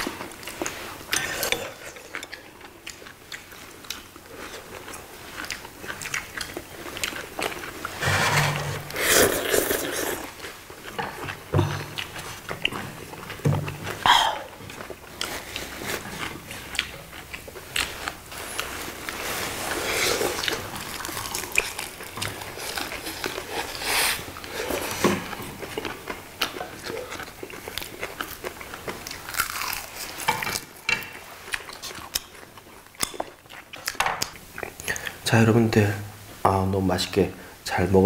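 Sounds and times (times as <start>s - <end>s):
people chewing and crunching food: 0.0s - 38.0s.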